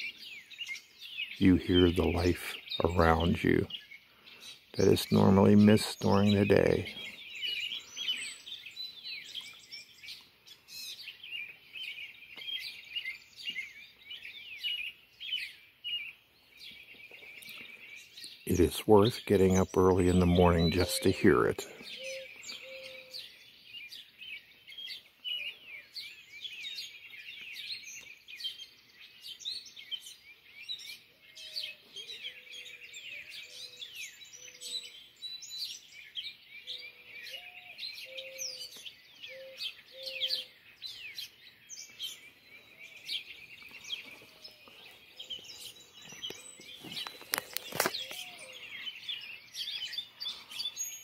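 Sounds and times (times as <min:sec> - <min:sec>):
birds chirping and trilling: 0:00.0 - 0:51.0.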